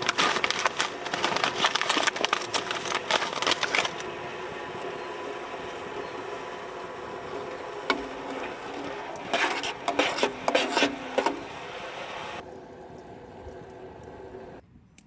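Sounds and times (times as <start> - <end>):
clattering scraping knocks: 0.0 - 12.4
steady low hum: 0.0 - 14.6.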